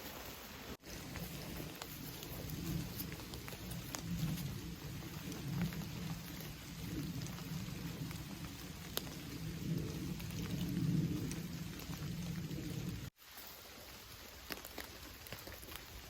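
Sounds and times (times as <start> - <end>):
heavy rain falling: 0.7 - 16.0
sharp ticks of raindrops: 0.8 - 16.0.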